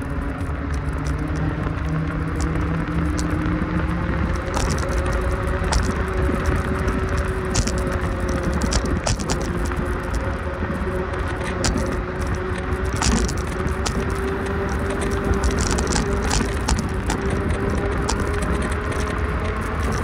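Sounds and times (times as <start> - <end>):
light rattles and clicks: 0.0 - 20.0
vehicle rumble with whine: 0.0 - 20.0.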